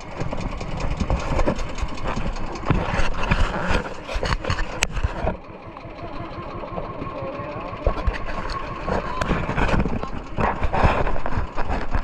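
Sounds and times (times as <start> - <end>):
boat engine running: 0.0 - 12.0
water rushing along hull: 0.0 - 12.0.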